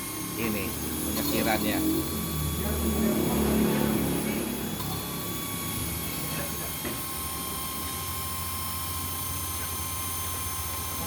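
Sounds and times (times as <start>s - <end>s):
electric drill running: 0.0s - 11.0s.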